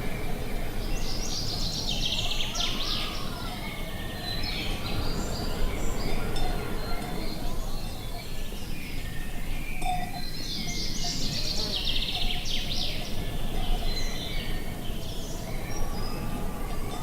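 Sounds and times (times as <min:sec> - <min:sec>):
low wind noise: 0:00.0 - 0:17.0
small birds chirping and trilling: 0:00.0 - 0:17.0.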